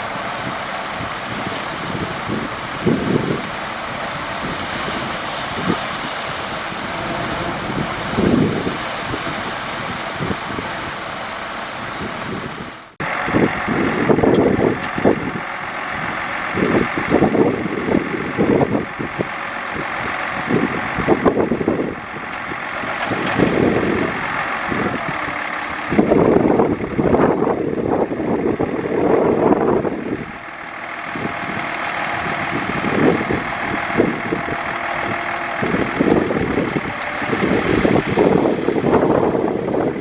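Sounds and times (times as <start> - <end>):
diesel earthmoving machinery: 0.0 - 40.0.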